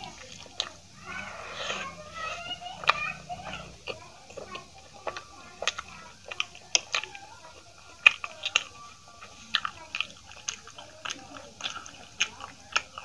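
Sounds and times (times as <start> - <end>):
wet chewing and lip smacks: 0.0 - 13.0.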